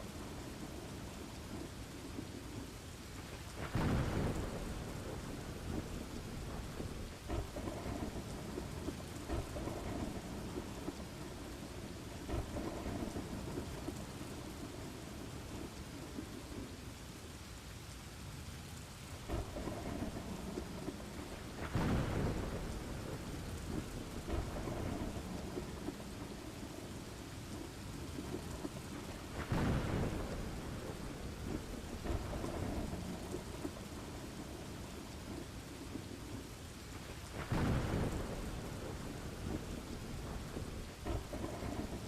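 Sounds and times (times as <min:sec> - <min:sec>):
steady rain: 0:00.0 - 0:42.0
rolling thunder: 0:03.4 - 0:16.7, 0:19.2 - 0:42.0.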